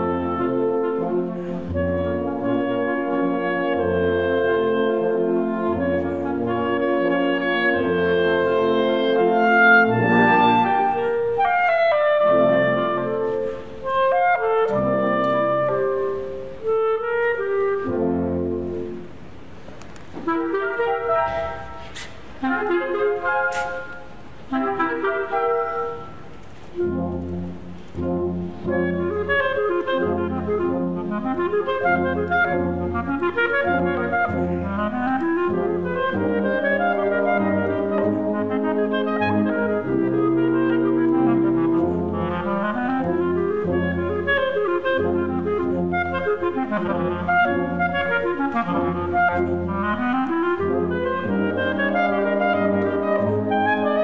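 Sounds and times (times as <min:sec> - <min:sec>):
concert wind band: 0:00.0 - 0:54.0
solo clarinet melody: 0:00.0 - 0:54.0.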